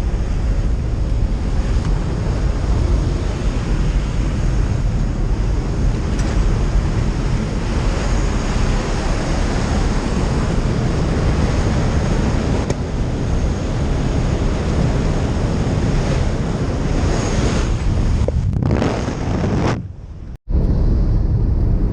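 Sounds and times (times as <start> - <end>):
strong wind buffeting microphone: 0.0 - 21.9.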